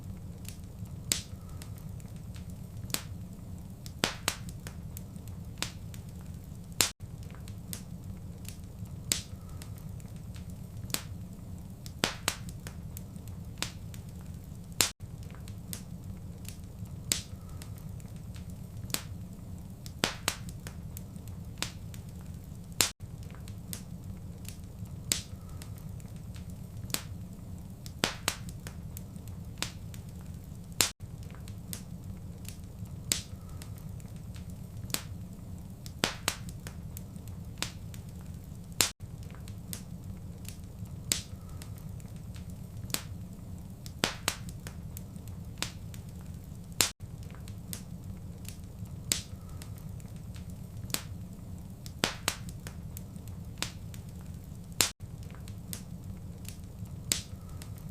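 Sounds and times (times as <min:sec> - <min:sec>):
fire crackling and popping: 0:00.0 - 0:57.9
low rumble of fire: 0:00.0 - 0:57.9.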